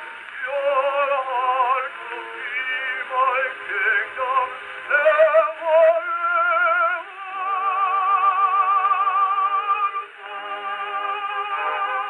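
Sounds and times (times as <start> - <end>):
gramophone record music: 0.0 - 12.0.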